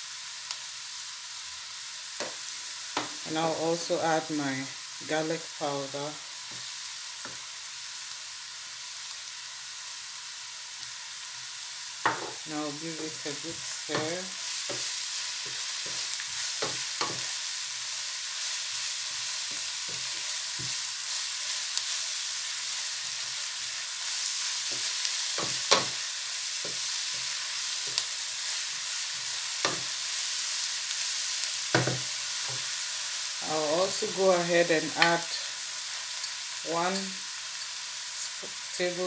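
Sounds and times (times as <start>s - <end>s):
vegetables sizzling in pan: 0.0s - 39.0s.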